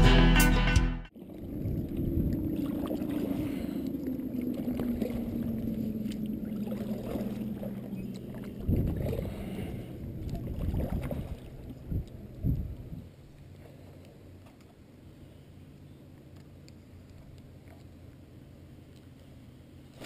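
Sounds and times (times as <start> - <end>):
water sloshing along hull: 1.1 - 20.0
paddle strokes splashing: 1.2 - 20.0
steady low hum: 1.2 - 20.0.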